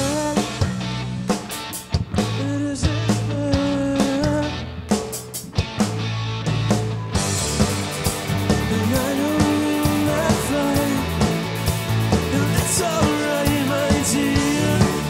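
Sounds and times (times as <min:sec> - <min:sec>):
electric guitar strumming: 0:00.0 - 0:02.6, 0:03.2 - 0:15.0
bass line: 0:00.0 - 0:15.0
drums: 0:00.0 - 0:15.0.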